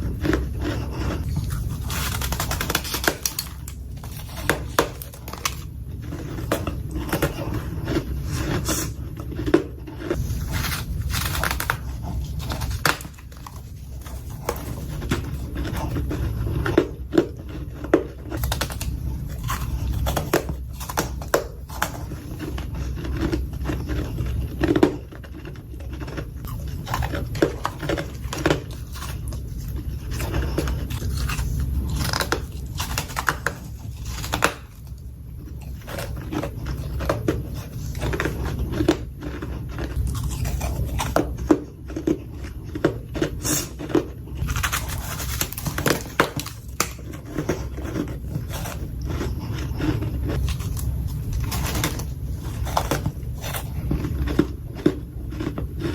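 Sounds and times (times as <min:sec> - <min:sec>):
crunching and chewing frost: 0:00.0 - 0:55.9
steady low hum: 0:00.0 - 0:55.9.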